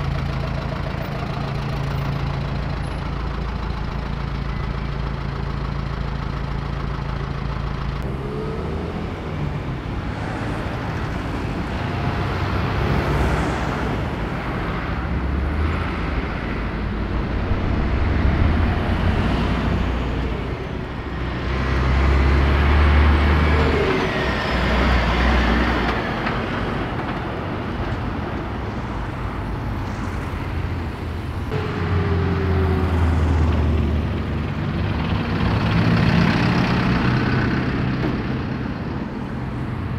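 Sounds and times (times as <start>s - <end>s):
engines rumbling: 0.0s - 39.9s
trucks and cars passing: 0.0s - 39.9s.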